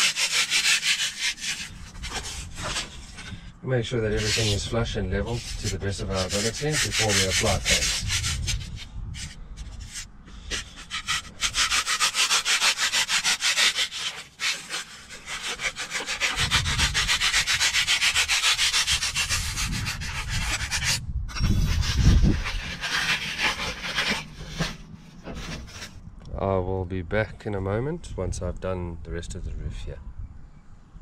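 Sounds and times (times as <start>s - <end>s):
hacksaw blade sawing foam: 0.0s - 3.4s, 4.1s - 25.9s.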